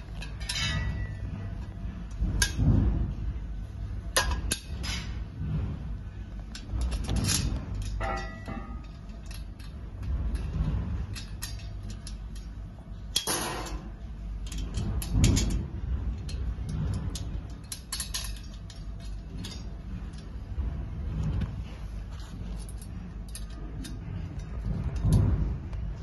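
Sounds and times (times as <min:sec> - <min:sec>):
low steady rumble: 0:00.0 - 0:26.0
metal tubes clicking and scraping: 0:00.0 - 0:26.0.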